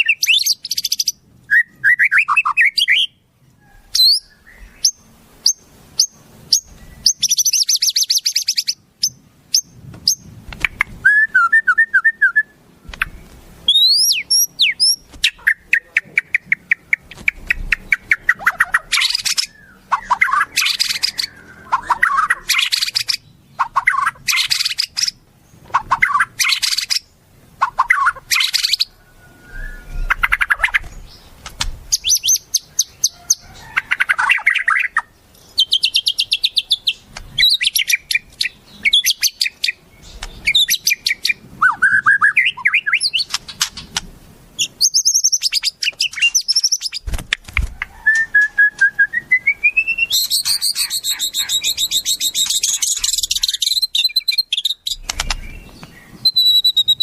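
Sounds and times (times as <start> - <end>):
songbird calls: 0.0 - 44.0, 44.6 - 47.1, 47.7 - 57.0.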